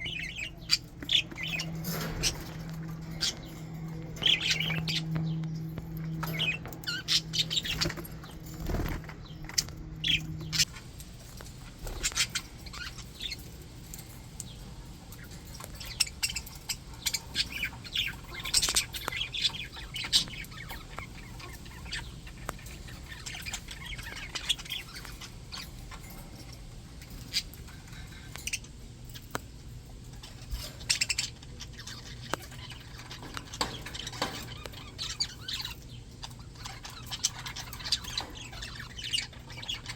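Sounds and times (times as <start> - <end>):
budgies chattering: 0.0 - 39.9
steady low hum: 0.0 - 39.9.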